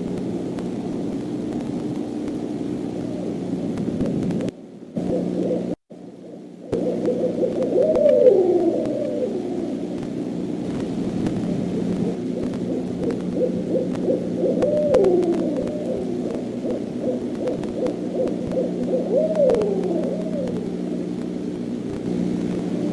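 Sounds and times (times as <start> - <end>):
owls hooting: 2.8 - 10.3, 11.0 - 22.9.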